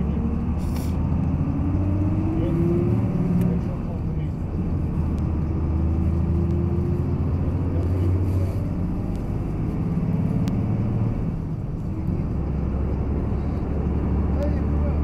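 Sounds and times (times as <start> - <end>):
arena background rumble: 0.0 - 15.0.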